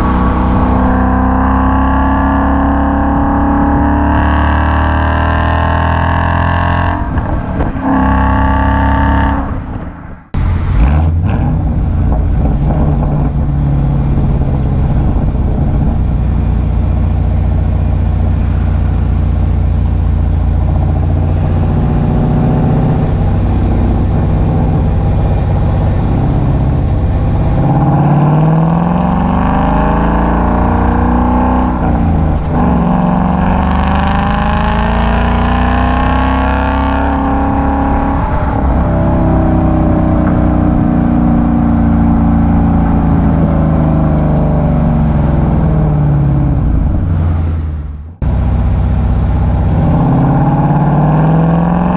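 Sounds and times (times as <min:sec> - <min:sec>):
car engine accelerating: 0:00.0 - 0:51.9
car exhaust droning: 0:00.0 - 0:51.9.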